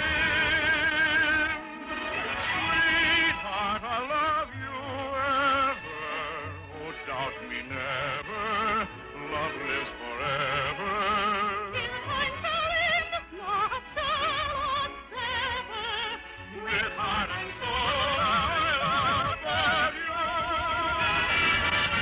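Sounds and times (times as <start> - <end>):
operatic high voice singing: 0.0 - 1.6, 2.3 - 22.0
orchestral accompaniment: 0.0 - 22.0.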